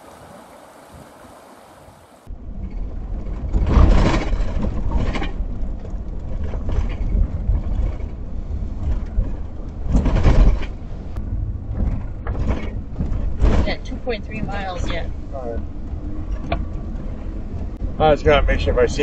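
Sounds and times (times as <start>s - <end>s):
van engine and tyre rumble: 0.0s - 19.0s.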